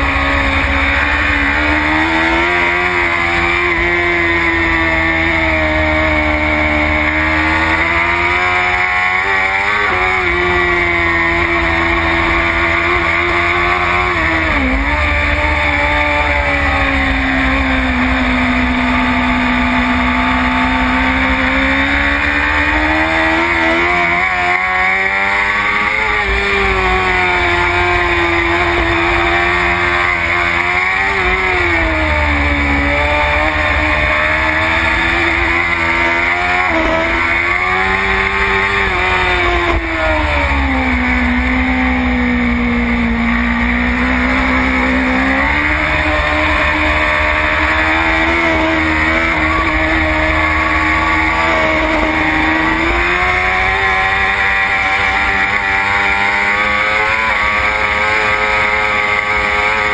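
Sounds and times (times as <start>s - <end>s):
motorcycle engine racing: 0.0s - 59.9s.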